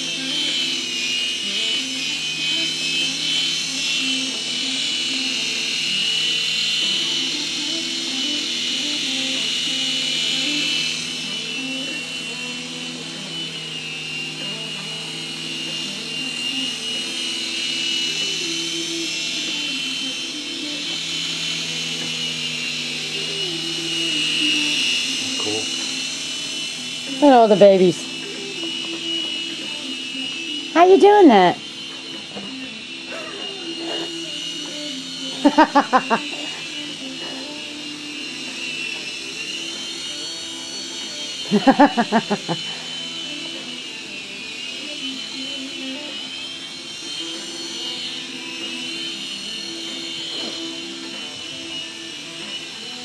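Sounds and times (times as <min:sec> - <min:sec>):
toy helicopter rotor whining: 0:00.0 - 0:53.0.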